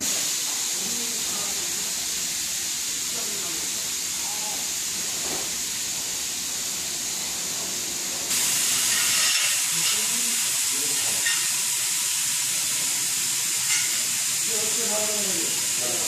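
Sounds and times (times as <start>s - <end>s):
ultrasonic cleaning machine hiss: 0.0s - 16.0s.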